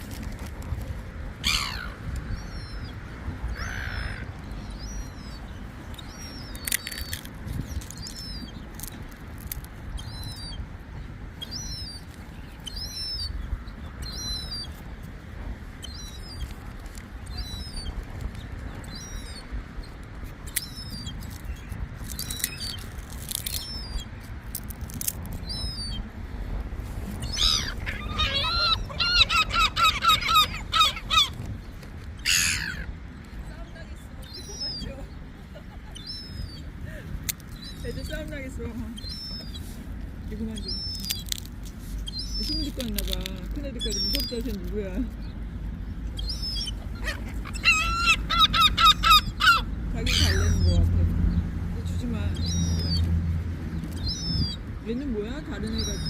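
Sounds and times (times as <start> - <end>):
seagulls calling: 0.0 - 14.9, 15.7 - 56.0
wind rumble on microphone: 0.0 - 56.0.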